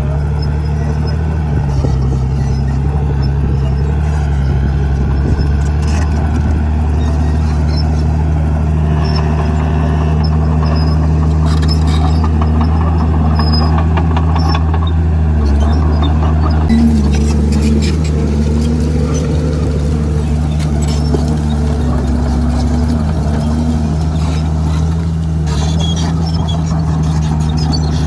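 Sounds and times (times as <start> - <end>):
bulldozer diesel engine running: 0.0 - 28.0
light rattling clatter: 1.5 - 28.0.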